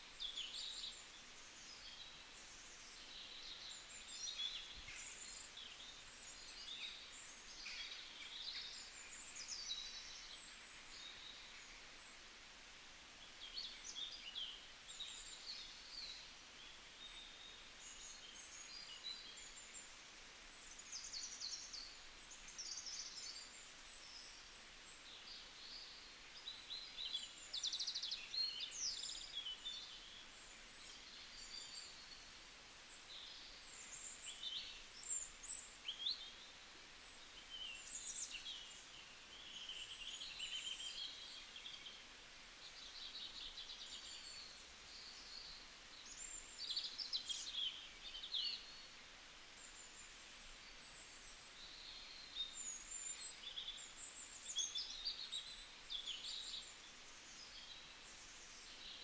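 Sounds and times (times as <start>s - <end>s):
faint steady hiss: 0.0s - 59.0s
songbirds chirping and trilling: 0.0s - 59.0s.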